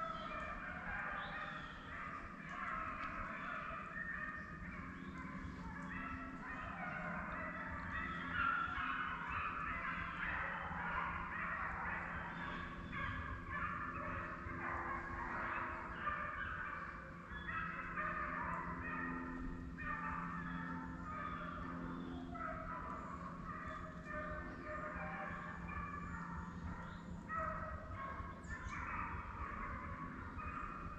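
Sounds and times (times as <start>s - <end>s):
hounds baying: 0.0s - 30.9s.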